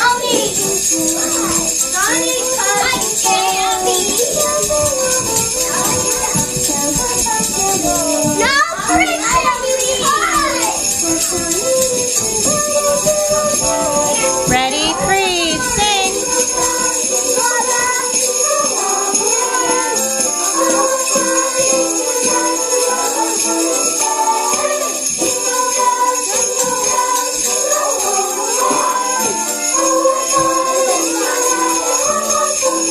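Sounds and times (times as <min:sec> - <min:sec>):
music: 0:00.0 - 0:32.9
sleigh bells jingling: 0:00.0 - 0:32.9.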